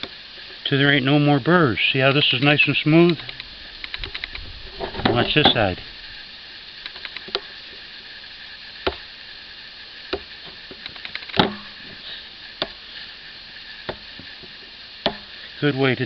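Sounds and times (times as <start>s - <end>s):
small ticks: 0.0s - 0.6s, 2.3s - 15.6s.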